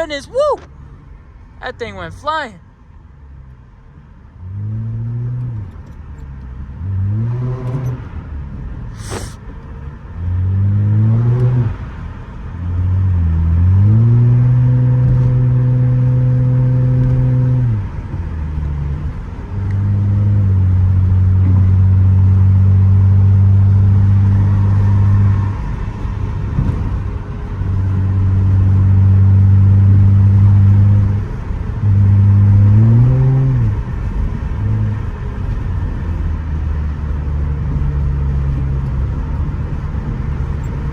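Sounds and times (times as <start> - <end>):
car exhaust accelerating hard: 6.6 - 40.9.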